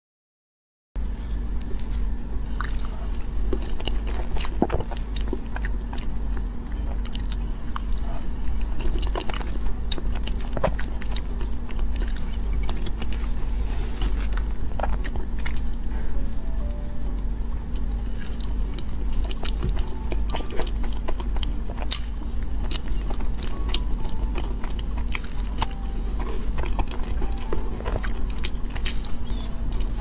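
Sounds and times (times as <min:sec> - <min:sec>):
low hum: 0:01.0 - 0:30.0
biting and chewing: 0:01.2 - 0:16.2, 0:17.7 - 0:30.0.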